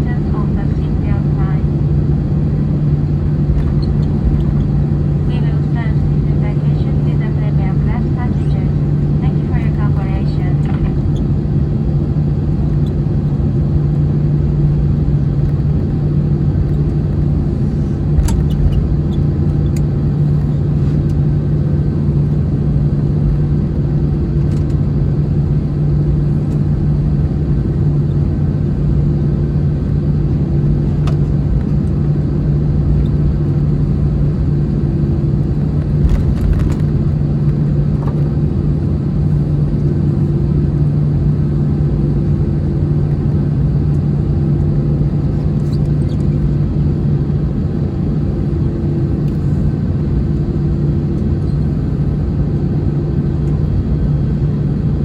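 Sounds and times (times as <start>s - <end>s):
airliner cabin engine hum: 0.0s - 55.0s.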